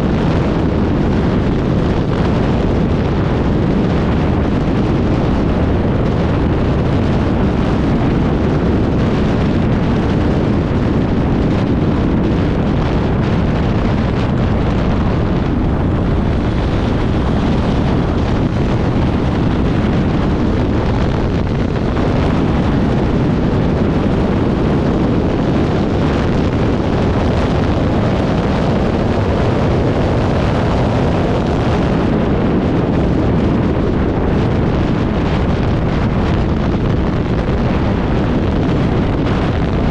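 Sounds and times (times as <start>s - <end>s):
motorcycle engine running hard: 0.0s - 39.9s
wind buffeting microphone: 0.0s - 39.9s.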